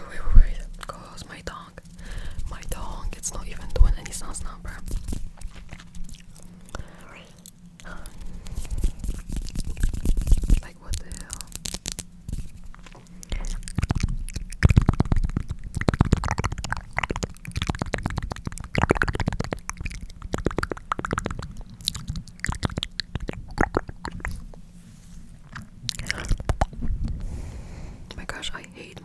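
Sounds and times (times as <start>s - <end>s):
wet tongue clicks: 1.8s - 12.5s, 13.1s - 24.6s, 25.4s - 27.2s.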